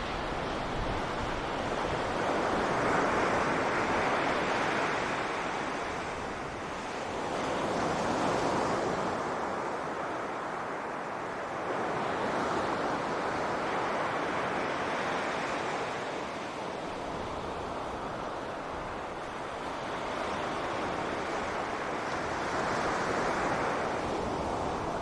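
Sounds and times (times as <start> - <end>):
sea waves washing onto beach: 0.0 - 25.0.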